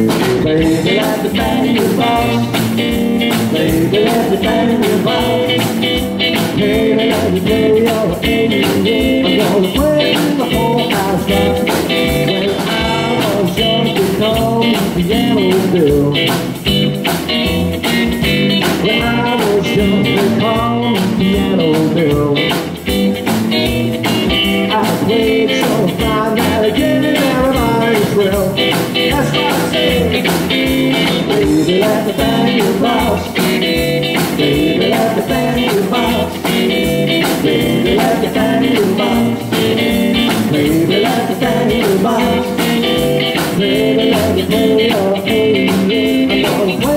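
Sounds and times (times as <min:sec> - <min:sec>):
drum kit beat: 0:00.0 - 0:46.9
electric guitar: 0:00.0 - 0:46.9
upright double bass: 0:00.0 - 0:46.9.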